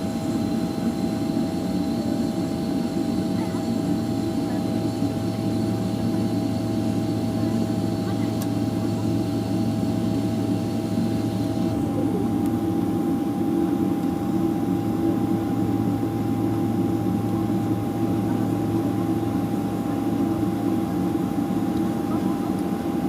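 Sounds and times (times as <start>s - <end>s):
airplane cabin drone: 0.0s - 23.0s
constant whine: 0.0s - 23.0s.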